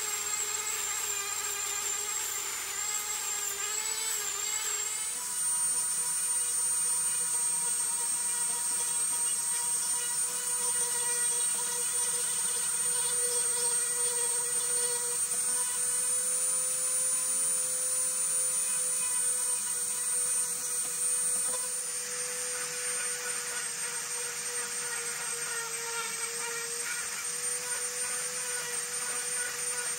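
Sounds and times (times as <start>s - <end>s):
rotary carving tool grinding wood: 0.0s - 29.9s.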